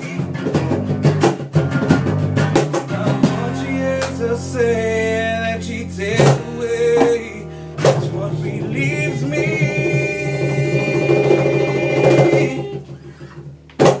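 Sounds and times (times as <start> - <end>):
acoustic band playing chords: 0.0 - 14.0.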